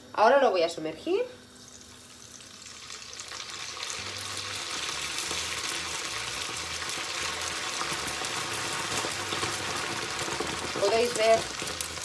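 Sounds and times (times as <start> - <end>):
rice sizzling in hot oil: 1.5 - 12.0.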